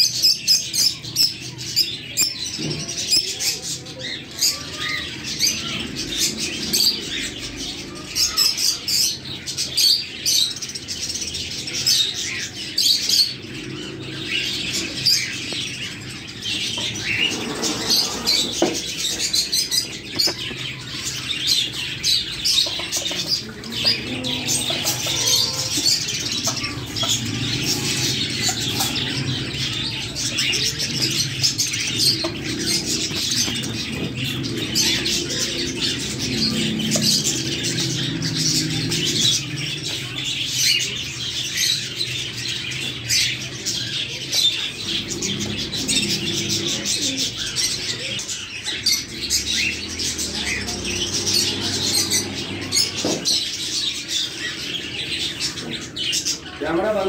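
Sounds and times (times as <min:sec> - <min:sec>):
caged birds chirping: 0:00.0 - 0:57.0.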